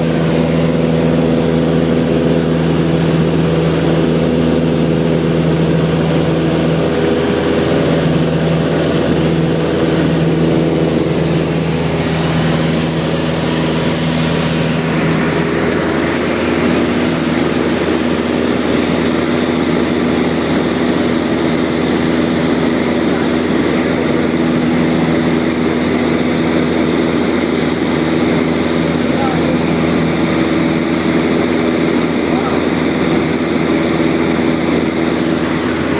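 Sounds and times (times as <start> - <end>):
aircraft engine and propeller drone: 0.0 - 35.9
rushing air: 0.0 - 35.9.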